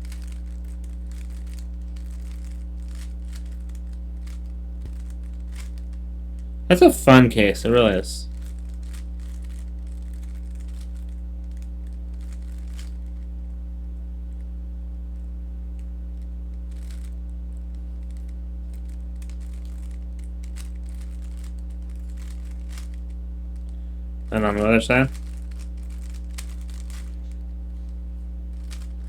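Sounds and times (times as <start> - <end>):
mains hum: 0.0 - 29.0.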